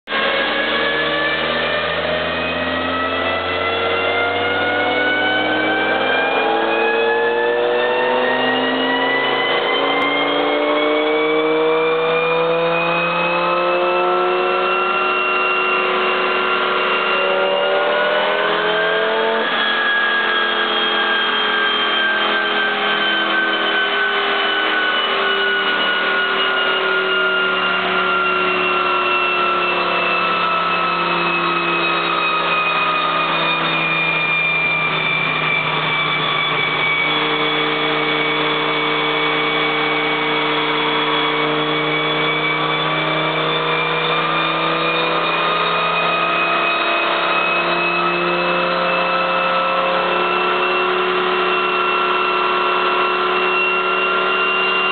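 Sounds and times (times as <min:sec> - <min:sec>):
turbocharged engine revving: 0:00.0 - 0:54.9.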